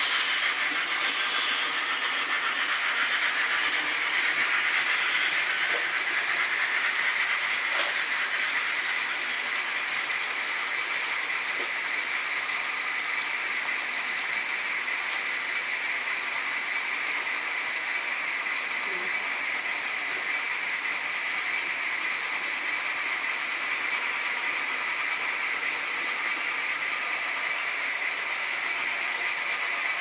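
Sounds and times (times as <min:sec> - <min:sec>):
model trains whirring on track: 0:00.0 - 0:30.0.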